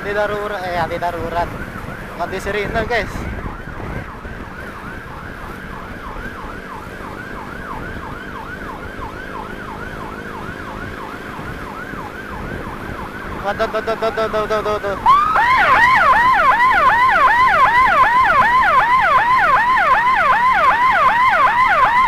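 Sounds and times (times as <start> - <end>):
road noise: 0.0 - 22.0
siren yelping: 0.6 - 22.0.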